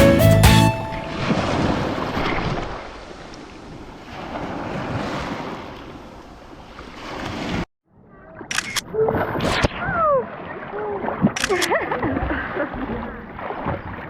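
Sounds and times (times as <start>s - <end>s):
sea waves: 0.0s - 7.7s, 8.6s - 14.0s
wind: 0.8s - 14.0s.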